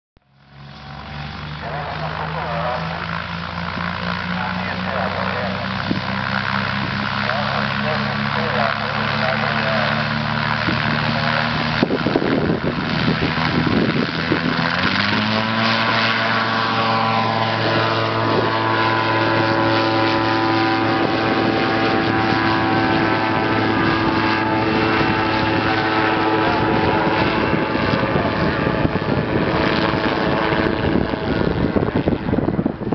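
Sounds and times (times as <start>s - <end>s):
gyroplane engine and propeller drone: 0.2s - 32.9s.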